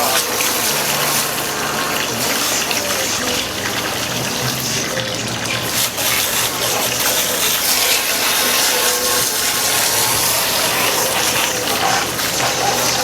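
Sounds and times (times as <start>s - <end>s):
water spray hissing on hull: 0.0s - 13.0s.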